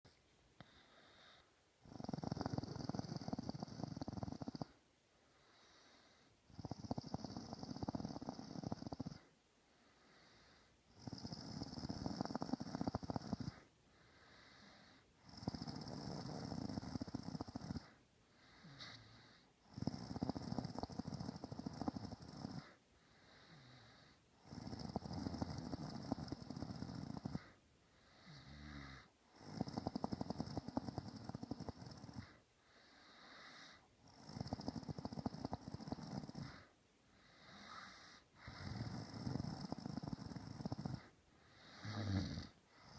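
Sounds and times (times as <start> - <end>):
quiet breaths: 0.1 - 42.9
person snoring: 0.6 - 4.8, 5.5 - 9.3, 10.1 - 42.9.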